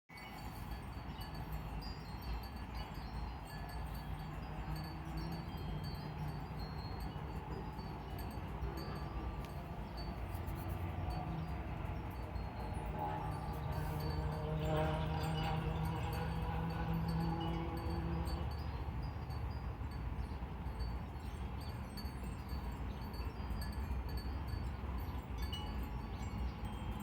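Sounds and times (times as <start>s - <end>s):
wind chimes tinkling: 0.1s - 27.0s.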